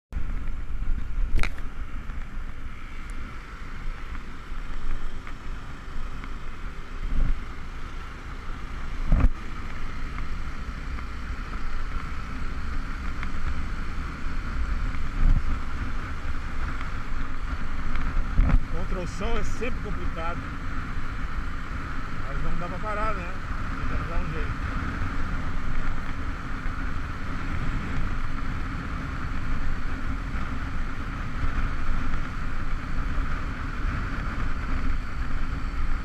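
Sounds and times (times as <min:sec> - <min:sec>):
motorcycle engine: 0:00.1 - 0:36.0
road noise: 0:00.1 - 0:36.0
wind buffeting microphone: 0:00.1 - 0:36.0.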